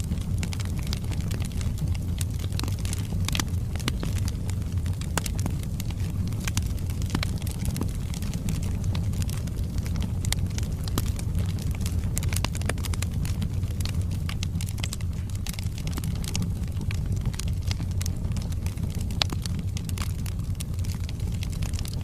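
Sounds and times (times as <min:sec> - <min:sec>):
fire flames rumbling: 0:00.0 - 0:22.0
logs crackling and popping: 0:00.0 - 0:22.0.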